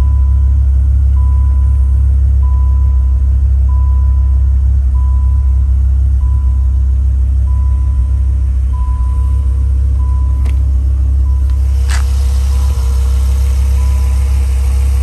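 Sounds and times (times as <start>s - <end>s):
car engine idling: 0.0s - 15.0s
warning chime beeping: 1.2s - 11.7s, 12.5s - 15.0s.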